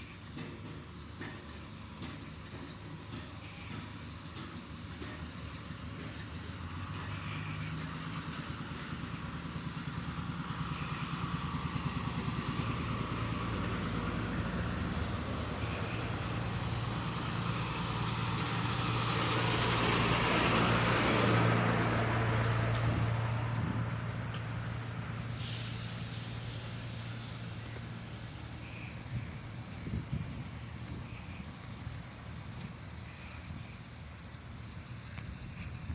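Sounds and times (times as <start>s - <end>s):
heavy machinery engine humming: 0.0s - 35.9s.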